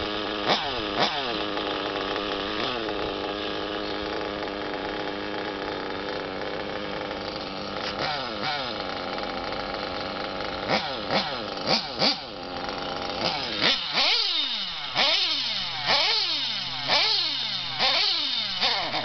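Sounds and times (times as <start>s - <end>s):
rc buggy engine revving: 0.0s - 19.0s.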